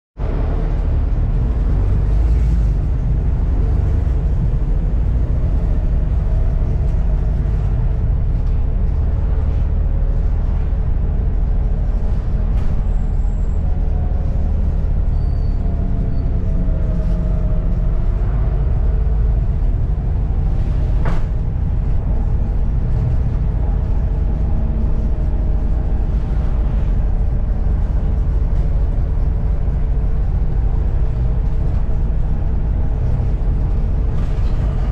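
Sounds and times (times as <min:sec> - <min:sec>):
bus diesel engine rumble: 0:00.2 - 0:34.9.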